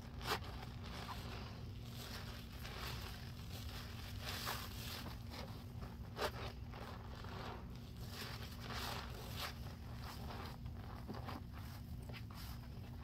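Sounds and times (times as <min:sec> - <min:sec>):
foam squishing and crackling: 0:00.0 - 0:13.0.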